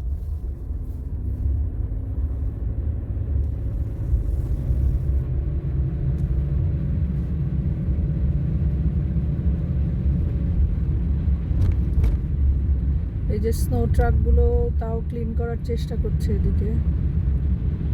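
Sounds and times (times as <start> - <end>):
faint engine hum: 0.0 - 17.9
tyres rumbling on snowy road: 0.0 - 17.9.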